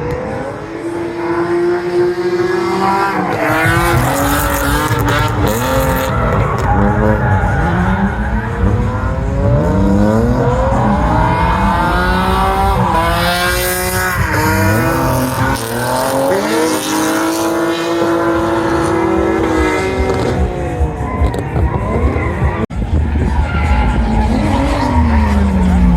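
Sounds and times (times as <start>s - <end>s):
car engine revving hard: 0.0s - 25.9s.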